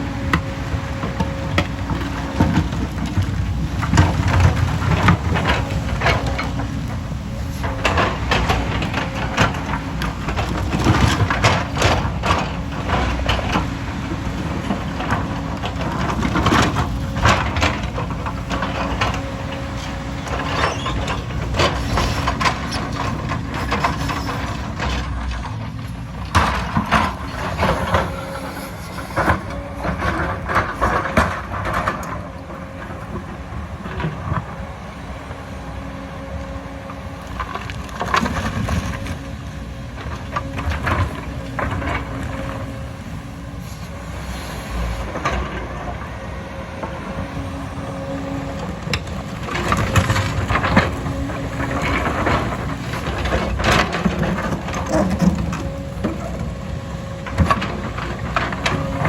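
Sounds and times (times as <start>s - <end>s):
earthmover diesel engine running: 0.0s - 59.0s.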